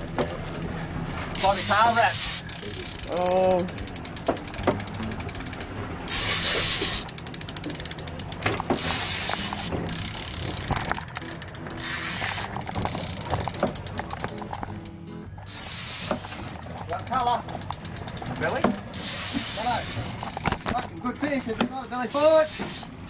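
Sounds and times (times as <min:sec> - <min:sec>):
fishing reel clicker clicking: 0:01.4 - 0:21.4.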